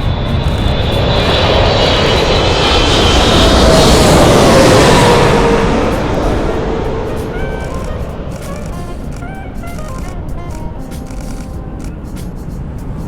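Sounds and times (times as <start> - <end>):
jet airliner passing overhead: 0.0 - 13.0.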